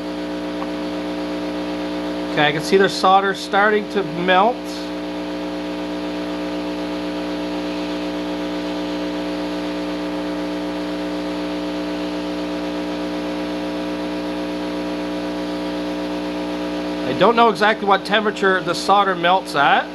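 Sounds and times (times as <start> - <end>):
heat gun running: 0.0 - 19.9.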